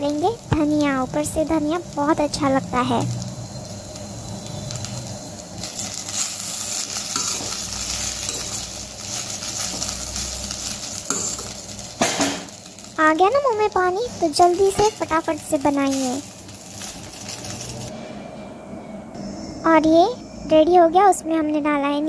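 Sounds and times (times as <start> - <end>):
soft sizzle: 0.0 - 18.1.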